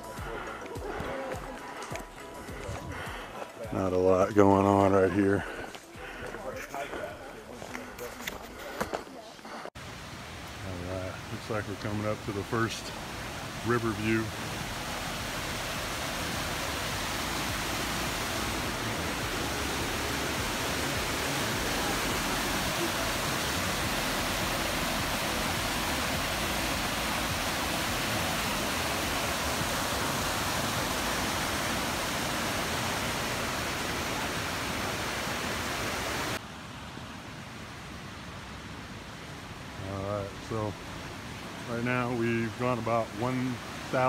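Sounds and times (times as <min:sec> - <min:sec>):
mountain stream rushing over boulders: 0:00.0 - 0:44.0.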